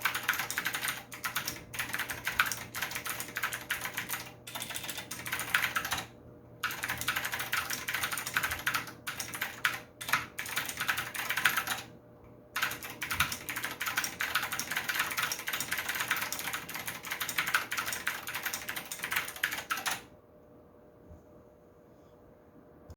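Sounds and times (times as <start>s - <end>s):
fast typing on mechanical keyboard: 0.0s - 11.9s, 12.6s - 20.1s.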